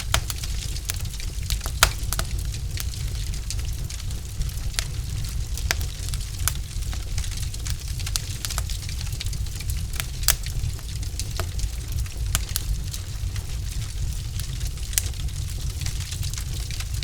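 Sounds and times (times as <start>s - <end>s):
logs crackling and popping: 0.0s - 17.0s
low rumble of fire: 0.0s - 17.0s.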